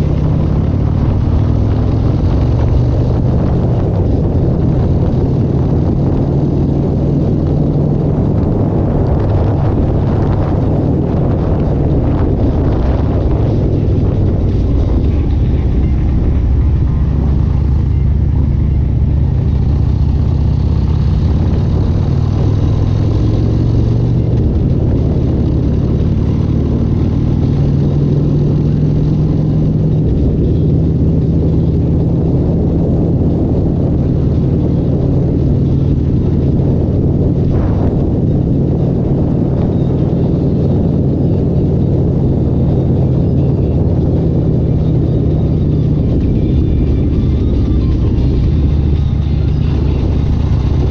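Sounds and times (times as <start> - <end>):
loud engine running: 0.0 - 50.9.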